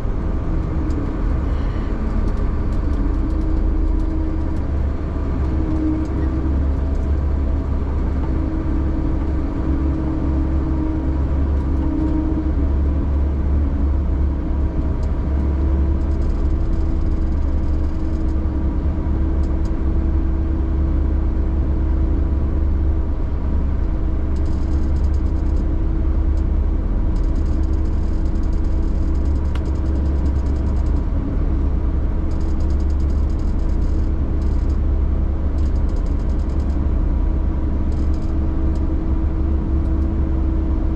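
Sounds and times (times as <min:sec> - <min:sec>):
vehicle engine rumble: 0:00.0 - 0:40.9.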